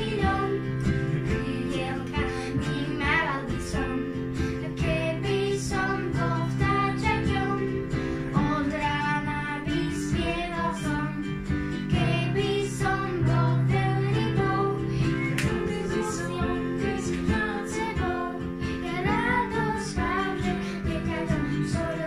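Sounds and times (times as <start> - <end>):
children singing: 0.0 - 22.0
piano: 0.0 - 22.0
strummed small guitar: 0.0 - 22.0.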